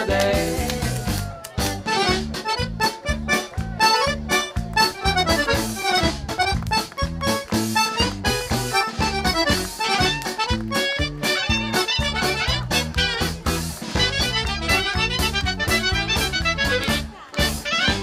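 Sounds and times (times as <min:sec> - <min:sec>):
accordion dance music: 0:00.0 - 0:18.0.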